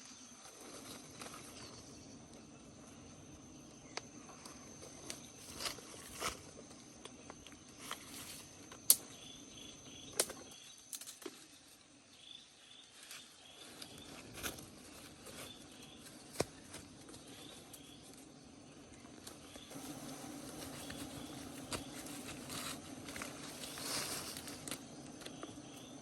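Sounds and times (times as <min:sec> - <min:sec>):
forest background: 0:00.0 - 0:26.0
high insect drone: 0:00.0 - 0:26.0.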